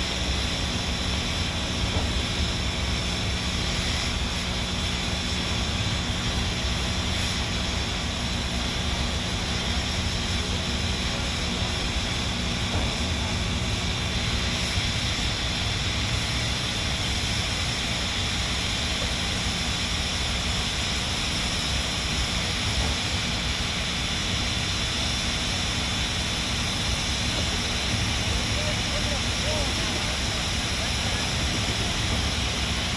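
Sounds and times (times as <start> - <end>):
steam hissing from locomotive: 0.0 - 32.9.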